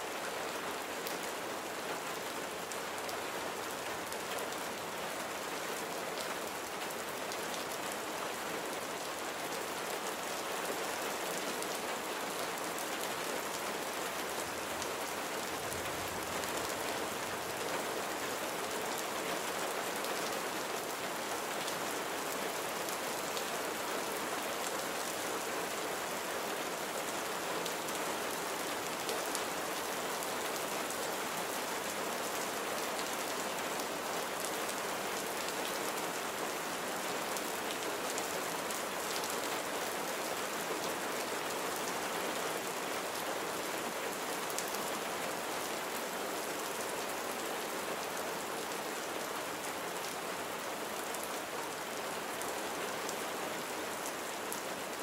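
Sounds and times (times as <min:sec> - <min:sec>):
steady rain on surfaces: 0:00.0 - 0:55.0.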